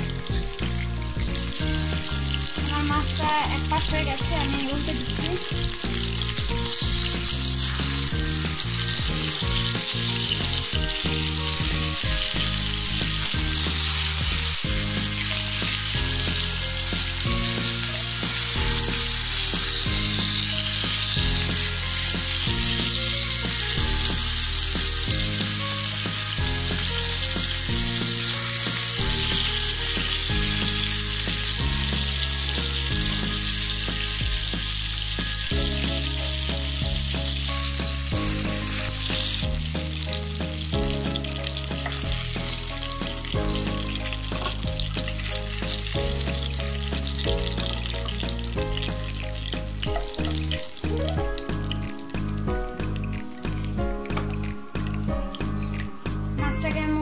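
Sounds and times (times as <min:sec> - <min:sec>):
wooden spatula turning fish: 0:00.0 - 0:56.2
fish sizzling in hot oil: 0:00.0 - 0:56.8
low background music: 0:00.0 - 0:57.0.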